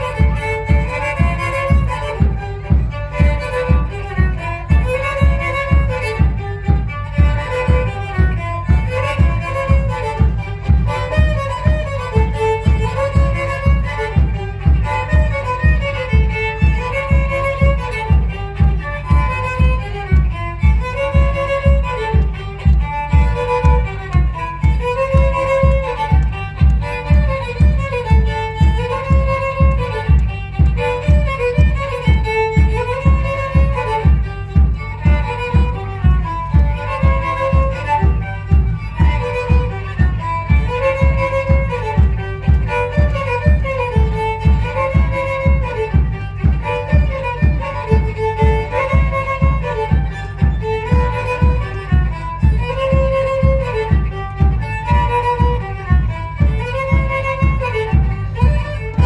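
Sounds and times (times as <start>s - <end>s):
violin-led folk dance music: 0.0s - 59.0s.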